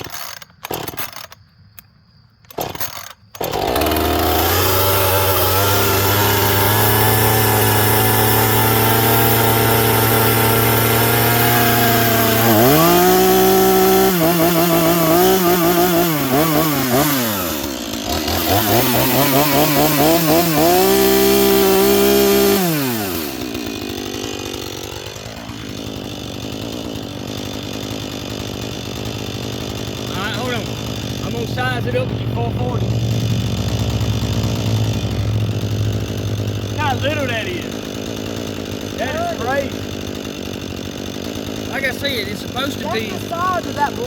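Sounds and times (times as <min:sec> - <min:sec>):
chainsaw idling and revving: 0:00.0 - 0:01.4, 0:02.5 - 0:44.0.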